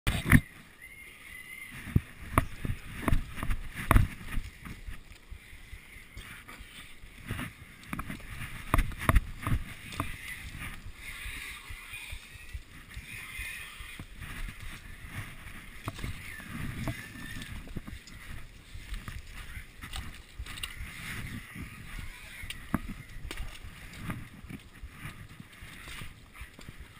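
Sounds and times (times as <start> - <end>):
leaves and branches brushing: 0.1 - 26.9.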